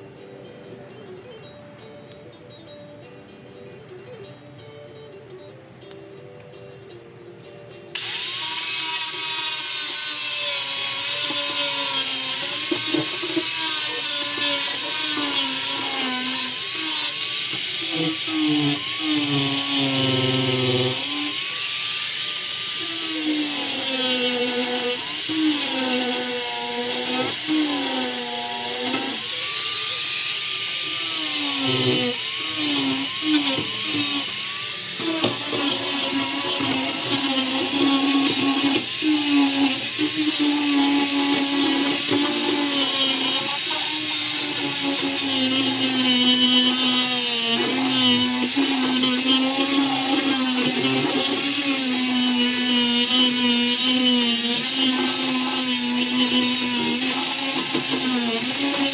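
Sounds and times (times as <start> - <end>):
angle grinder grinding fiberglass: 8.0 - 58.9.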